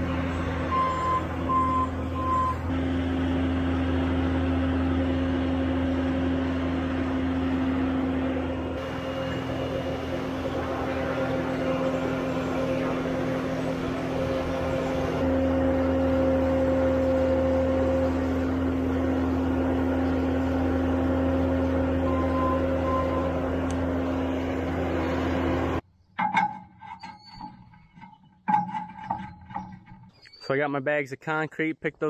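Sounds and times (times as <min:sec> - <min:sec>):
diesel engine at high throttle: 0:00.0 - 0:25.8.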